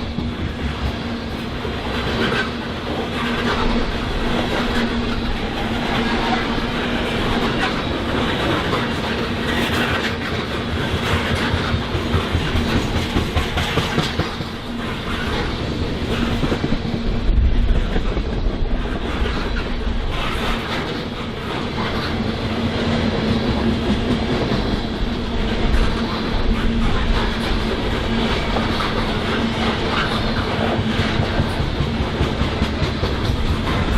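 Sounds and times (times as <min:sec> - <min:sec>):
train rumble: 0:00.0 - 0:33.9
train wheels clacking over rails: 0:00.0 - 0:33.9.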